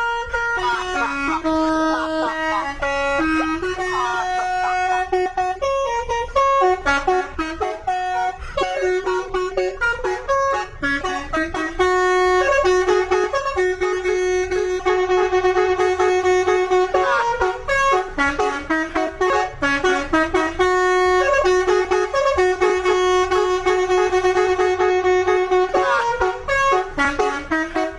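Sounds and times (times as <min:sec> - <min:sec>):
bus horn playing tune: 0:00.0 - 0:27.9.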